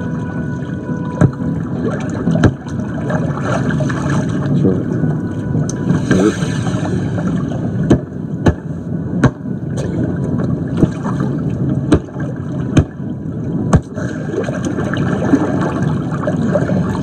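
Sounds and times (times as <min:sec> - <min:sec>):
jacuzzi jets bubbling water: 0:00.0 - 0:17.0.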